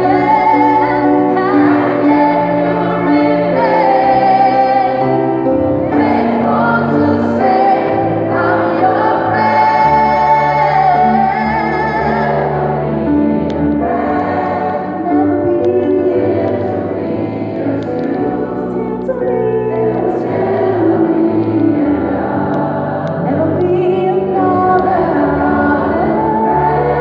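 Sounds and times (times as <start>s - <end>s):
woman singing into a microphone: 0.0s - 12.9s, 13.8s - 16.9s, 17.8s - 22.0s, 23.1s - 27.0s
gospel choir singing: 0.0s - 27.0s.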